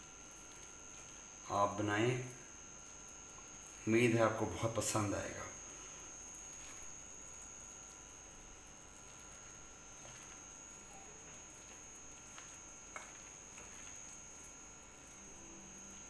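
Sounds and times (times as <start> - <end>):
high-pitched electrical whine: 0.0 - 16.0.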